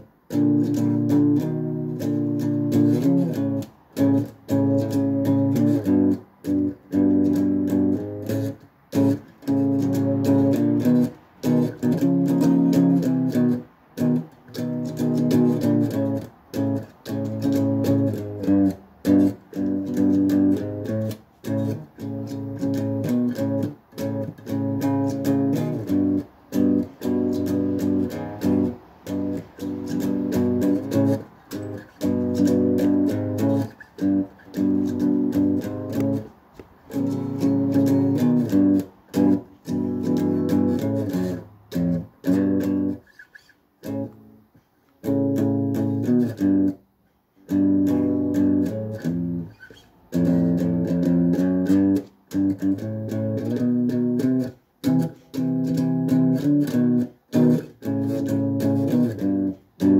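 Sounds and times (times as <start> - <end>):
strummed guitar chords: 0.0 - 43.2, 43.8 - 46.8, 47.5 - 59.9.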